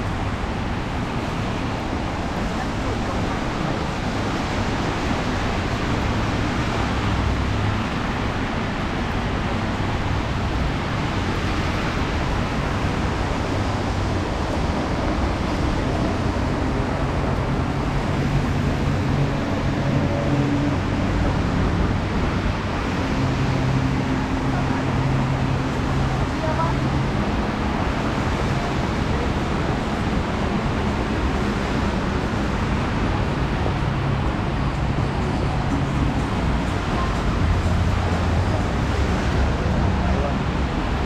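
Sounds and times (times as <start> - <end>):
low hum of engines: 0.0 - 41.0.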